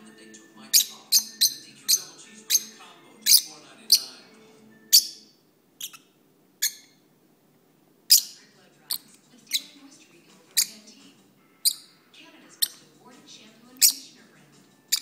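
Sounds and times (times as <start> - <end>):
lovebirds chirping: 0.0 - 7.0, 8.1 - 15.0.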